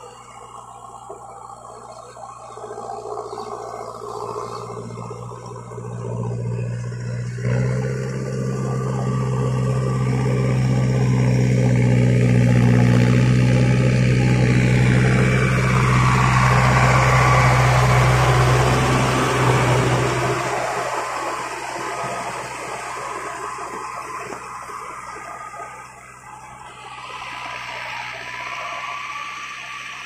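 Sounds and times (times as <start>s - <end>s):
tiller churning wet mud hiss: 0.0s - 30.0s
tractor diesel engine running: 0.0s - 30.0s.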